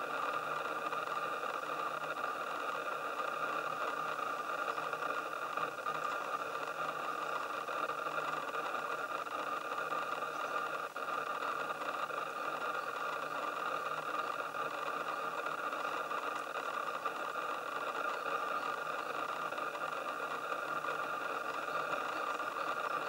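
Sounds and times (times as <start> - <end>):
camera lens whirring hiss: 0.0 - 23.0.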